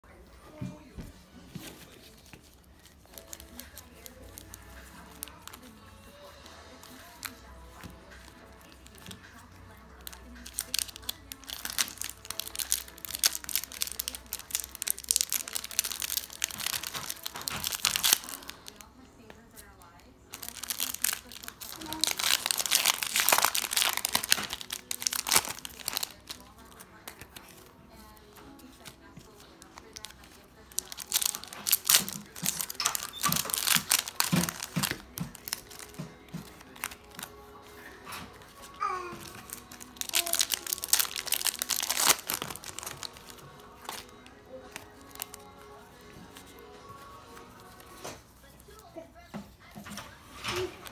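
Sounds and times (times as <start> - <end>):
foil wrapper crinkling: 1.6 - 48.9.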